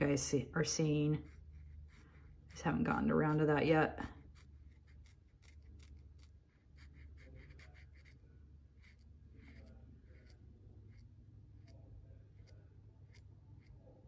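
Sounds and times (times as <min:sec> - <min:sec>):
low steady hum: 0:00.0 - 0:14.0
paint marker scratching on wood: 0:00.9 - 0:14.0.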